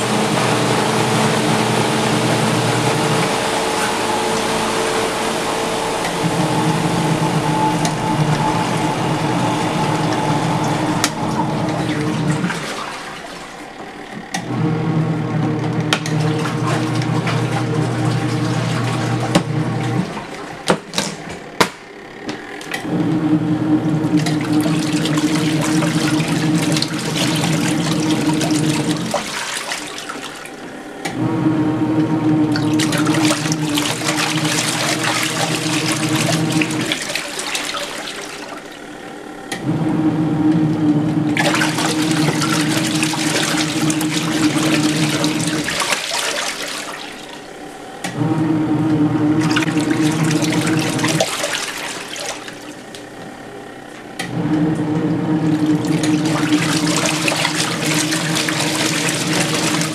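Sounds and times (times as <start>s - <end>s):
washing machine motor humming: 0.0s - 59.9s
water churning and sloshing: 0.0s - 59.9s.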